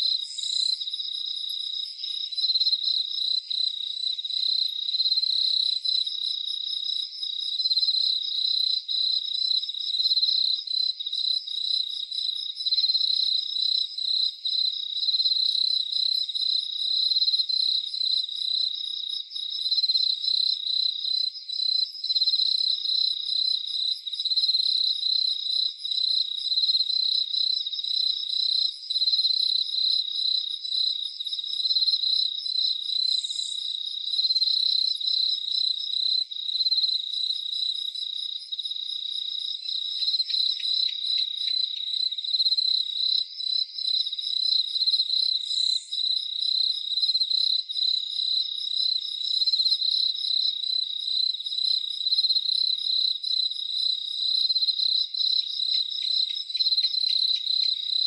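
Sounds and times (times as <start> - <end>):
crickets chirping: 0.0 - 58.0
faint high pulsed insect call: 0.0 - 58.0.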